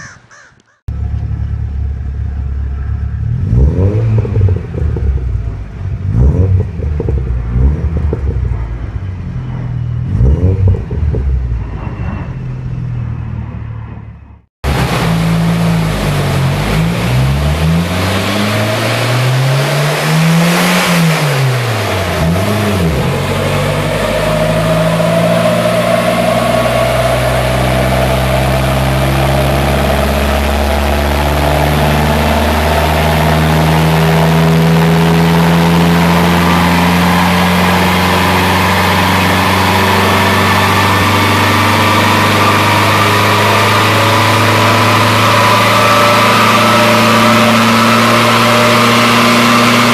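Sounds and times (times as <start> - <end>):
car engine revving: 0.9 - 49.9.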